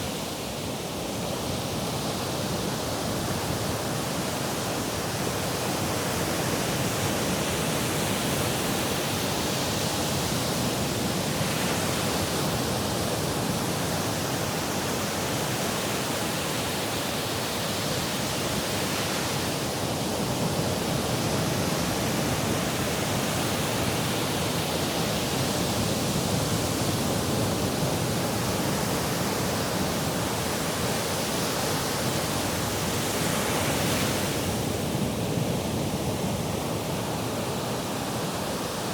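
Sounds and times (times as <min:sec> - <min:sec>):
sea surf washing on shore: 0:00.0 - 0:38.9.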